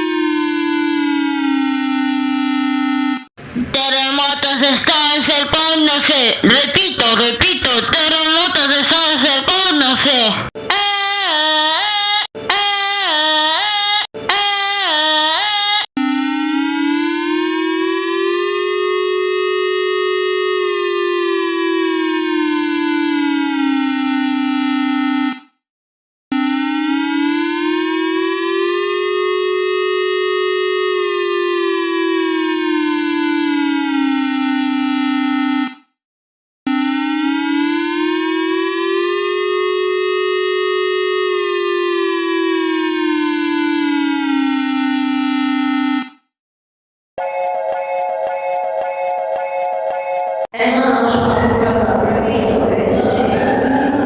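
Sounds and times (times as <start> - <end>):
warning siren wailing: 0.0 - 25.6, 26.3 - 35.9, 36.7 - 46.3, 47.2 - 54.0.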